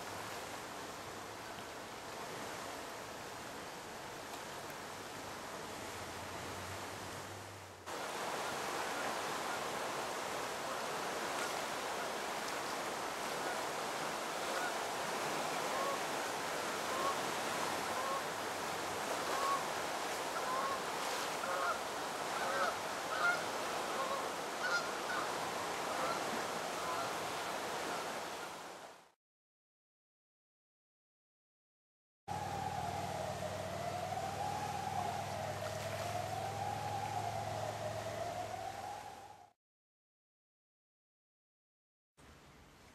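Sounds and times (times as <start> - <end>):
river rushing: 0.0 - 29.0, 32.3 - 39.4.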